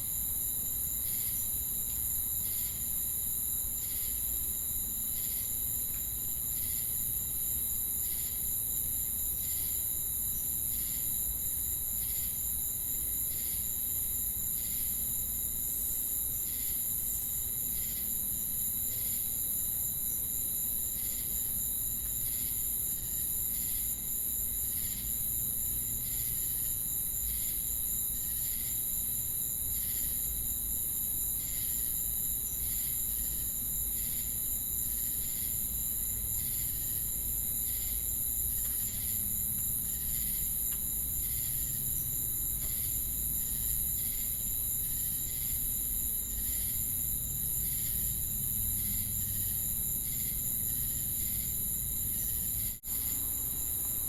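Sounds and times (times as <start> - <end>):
insect chirp: 0.0 - 54.0
insect drone: 0.0 - 54.0.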